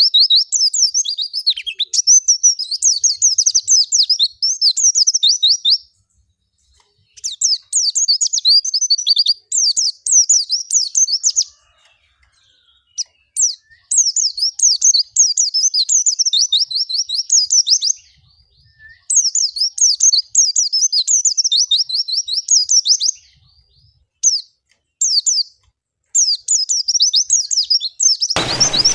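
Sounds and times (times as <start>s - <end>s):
bird twittering chirps: 0.0s - 28.9s.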